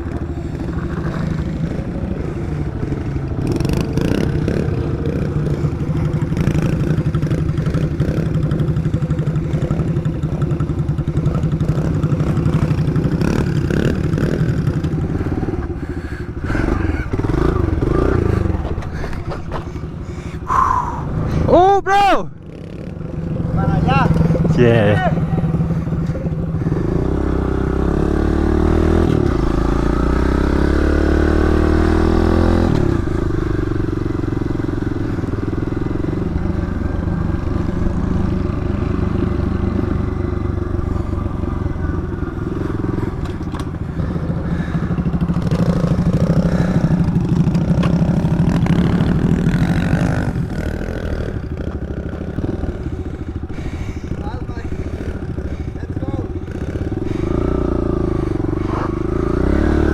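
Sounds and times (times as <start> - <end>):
mini bike engine revving: 0.0 - 21.6, 22.4 - 59.9.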